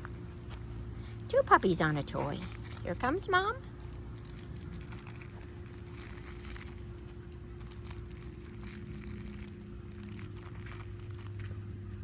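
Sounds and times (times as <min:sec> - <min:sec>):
faint droning tone: 0:00.0 - 0:12.0
faint rustling and crinkling: 0:00.0 - 0:12.0
steady low hum: 0:00.0 - 0:12.0.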